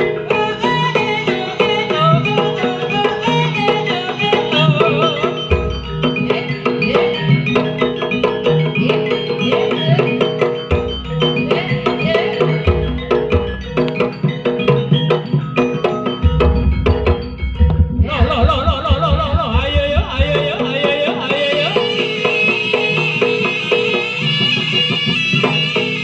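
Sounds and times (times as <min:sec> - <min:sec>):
gamelan percussion and drums: 0:00.0 - 0:26.0
wavering melody: 0:00.0 - 0:26.0.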